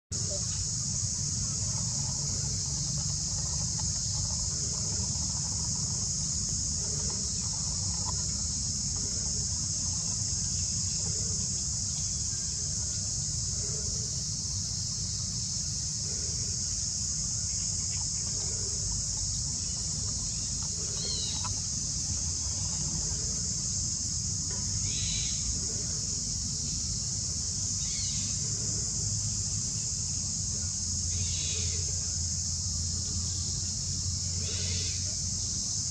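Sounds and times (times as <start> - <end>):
insects droning: 0.1 - 35.9
low steady rumble: 0.1 - 35.9.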